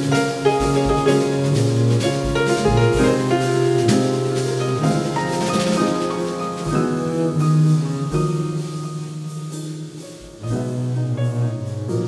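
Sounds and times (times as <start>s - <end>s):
bowed double bass: 0.0s - 12.0s
light drum kit and cymbal: 0.0s - 12.0s
piano chords: 0.0s - 12.0s.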